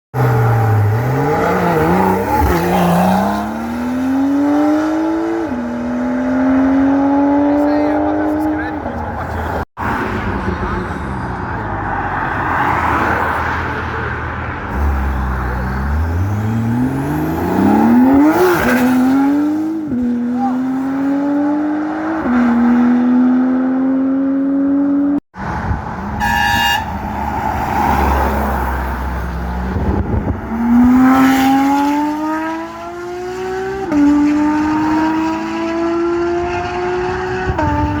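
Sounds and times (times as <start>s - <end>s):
car engine accelerating: 0.2s - 26.0s, 27.0s - 38.0s.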